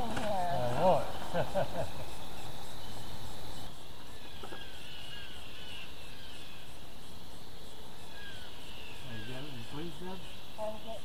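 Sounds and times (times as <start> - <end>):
birds calling faintly: 0.0 - 11.0
outdoor background hiss: 0.0 - 11.0.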